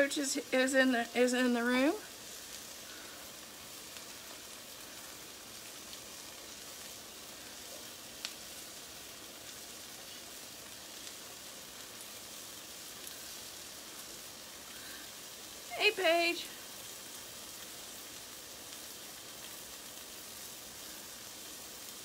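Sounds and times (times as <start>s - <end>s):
bacon sizzling on a griddle: 0.0s - 22.0s.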